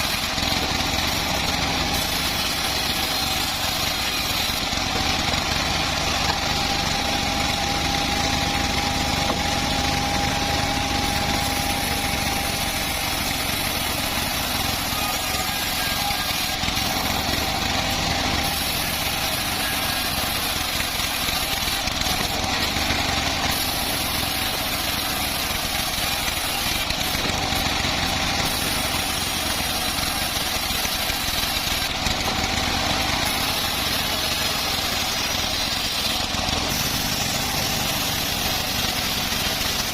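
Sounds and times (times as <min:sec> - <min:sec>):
bandsaw mill running: 0:00.0 - 0:39.9.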